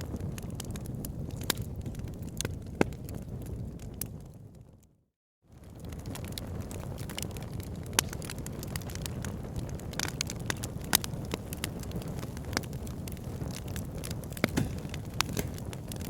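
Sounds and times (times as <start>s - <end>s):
campfire crackling and popping: 0.0s - 4.6s, 5.5s - 16.0s.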